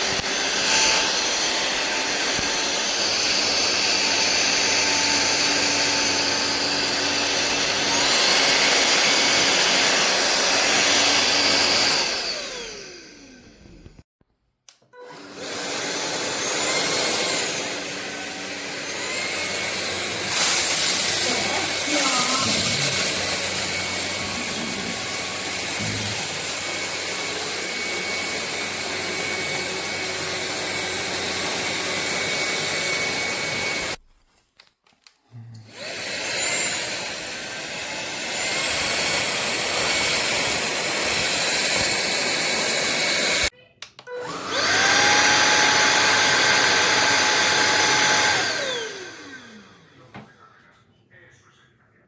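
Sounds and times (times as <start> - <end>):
stick vacuum running: 0.0 - 14.0, 14.7 - 34.0, 35.6 - 50.3.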